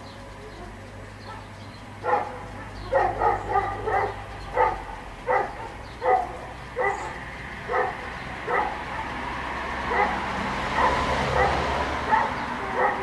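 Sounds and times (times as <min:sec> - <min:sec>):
dog barking: 0:00.6 - 0:09.2, 0:09.8 - 0:13.0.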